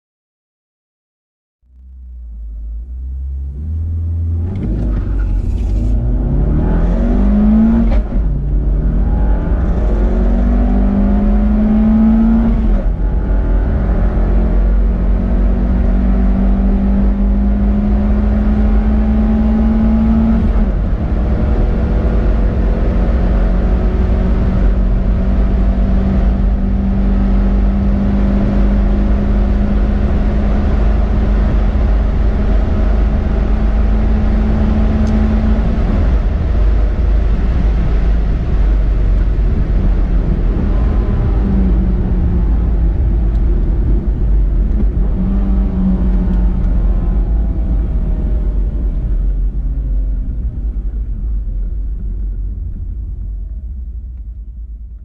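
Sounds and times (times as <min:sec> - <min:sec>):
low rumble: 0:01.6 - 0:55.0
car engine accelerating: 0:01.7 - 0:55.0.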